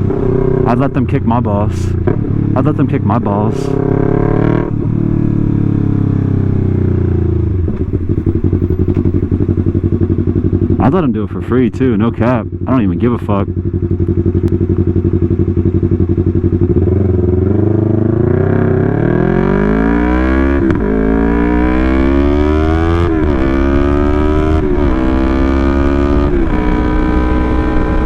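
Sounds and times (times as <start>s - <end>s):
motorcycle engine with loud exhaust: 0.0s - 28.0s.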